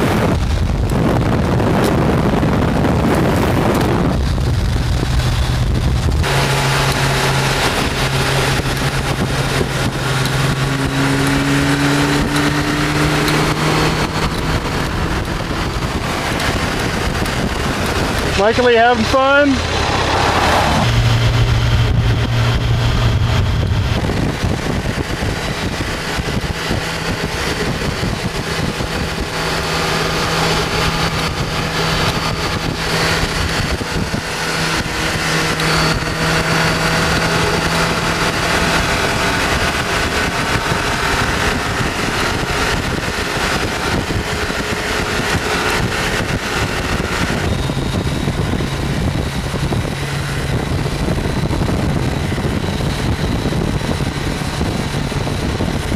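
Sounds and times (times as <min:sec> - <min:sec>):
motorcycle engine running: 0:00.0 - 0:55.9
wind rushing on microphone: 0:00.0 - 0:55.9.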